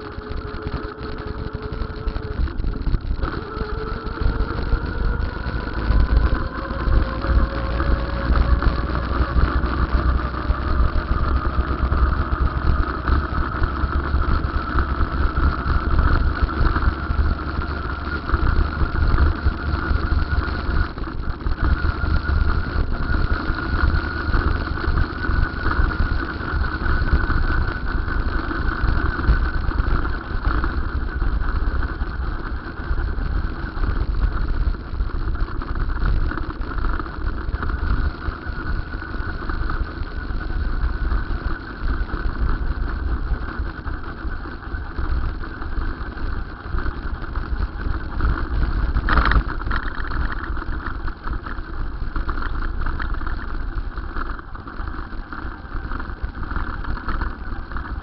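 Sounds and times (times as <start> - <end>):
electric bicycle hum: 0.0 - 58.0
wind on microphone: 0.0 - 58.0.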